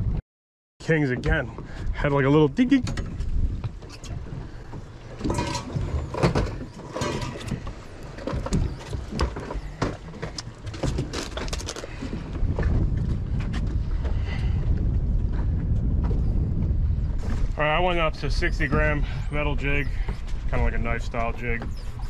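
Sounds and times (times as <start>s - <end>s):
low rumble of wind and water: 0.0s - 0.2s, 0.8s - 22.0s.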